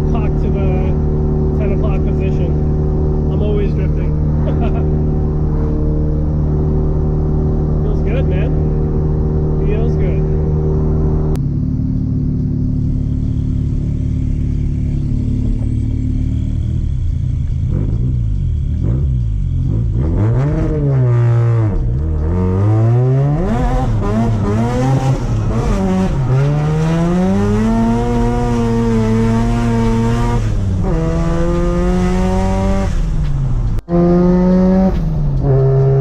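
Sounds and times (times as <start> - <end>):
rotary engine revving: 0.0 - 36.0.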